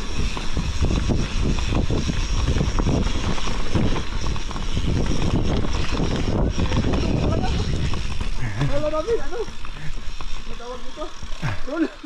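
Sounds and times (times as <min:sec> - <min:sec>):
wind buffeting microphone: 0:00.0 - 0:11.6
bike rumbling and rattling: 0:00.0 - 0:12.0.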